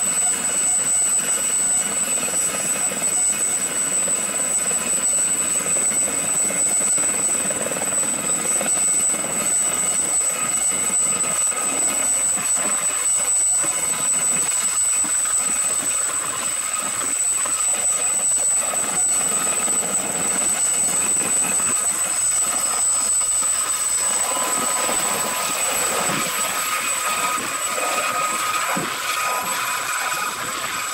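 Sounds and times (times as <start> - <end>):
helicopter rotor noise: 0.0 - 30.9
helicopter turbine whine: 0.0 - 30.9.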